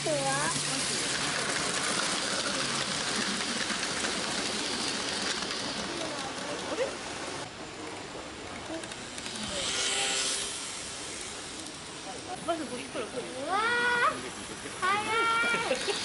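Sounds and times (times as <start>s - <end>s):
model train wheels clattering on track: 0.0s - 12.3s, 14.4s - 16.0s.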